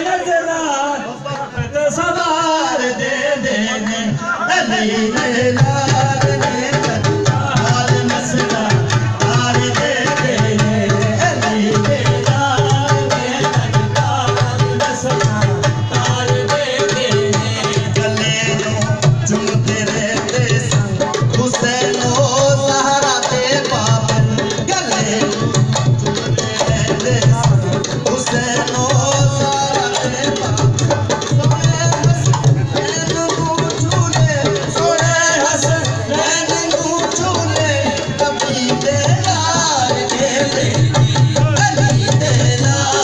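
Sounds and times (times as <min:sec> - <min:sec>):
qawwali music over loudspeakers: 0:00.0 - 0:43.0
tabla beat: 0:00.0 - 0:43.0.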